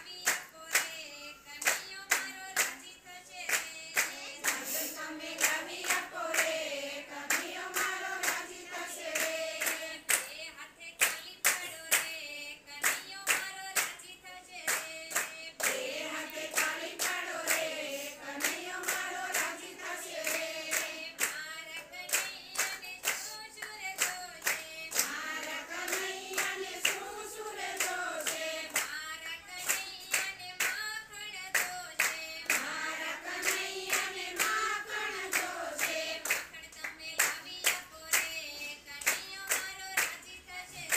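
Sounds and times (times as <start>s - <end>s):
rhythmic hand-clapping: 0.0s - 40.9s
women singing together: 0.0s - 40.9s.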